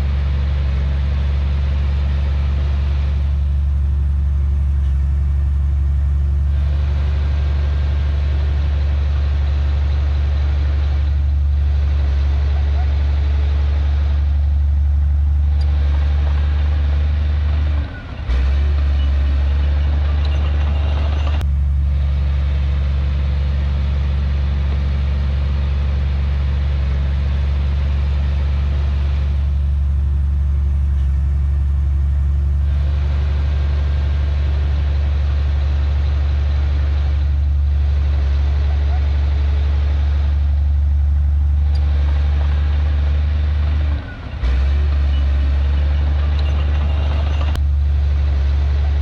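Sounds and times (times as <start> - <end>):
heavy diesel machinery droning: 0.0 - 49.0.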